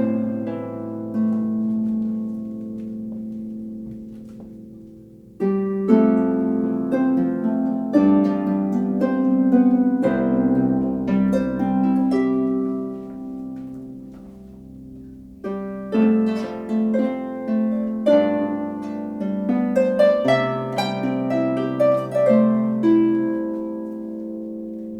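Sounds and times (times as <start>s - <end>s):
harp plucked notes and chords: 0.0s - 24.9s.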